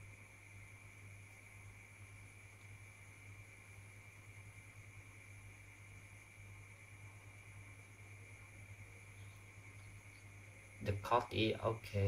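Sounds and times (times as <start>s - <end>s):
faint high-pitched whine: 0.0s - 12.0s
steady low hum: 0.0s - 12.0s.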